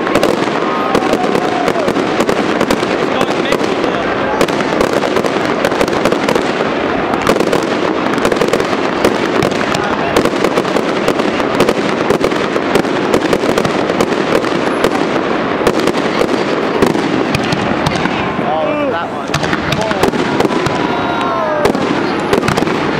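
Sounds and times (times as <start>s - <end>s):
fireworks popping and crackling: 0.0s - 22.9s.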